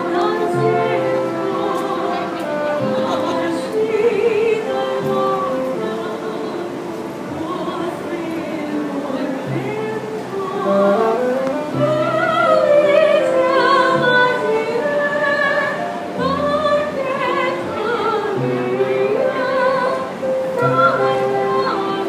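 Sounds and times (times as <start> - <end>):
saxophone: 0.0 - 22.0
woman singing with vibrato: 0.0 - 22.0.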